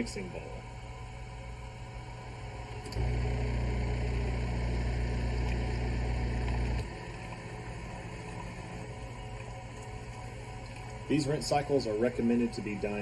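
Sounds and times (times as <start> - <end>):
coffee machine motor hum: 1.4 - 13.0.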